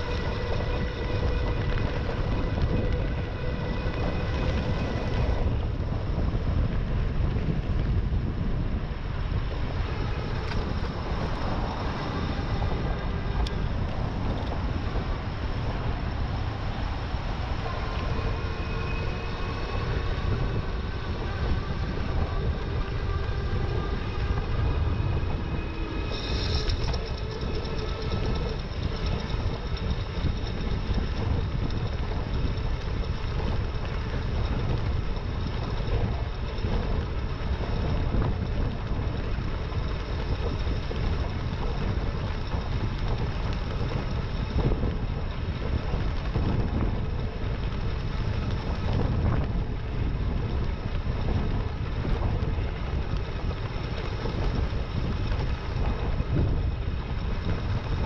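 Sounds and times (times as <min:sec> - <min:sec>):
faint whining tones: 0:00.0 - 0:58.0
road and tyre noise: 0:00.0 - 0:58.0
wind buffeting microphone: 0:00.0 - 0:58.0.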